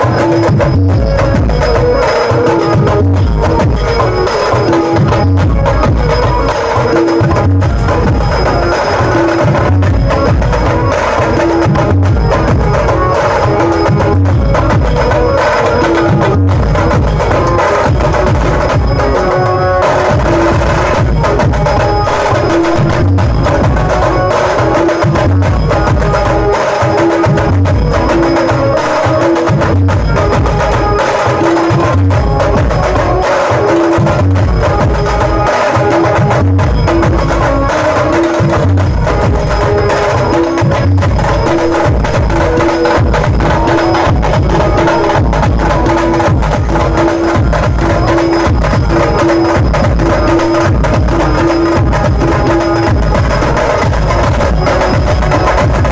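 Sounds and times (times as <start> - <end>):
heavy steady drumming: 0.0 - 55.9.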